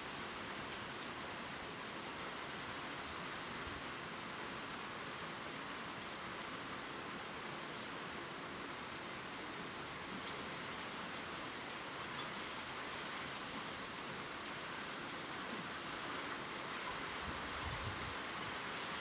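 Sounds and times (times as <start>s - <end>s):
gentle rain on leaves: 0.0s - 19.0s.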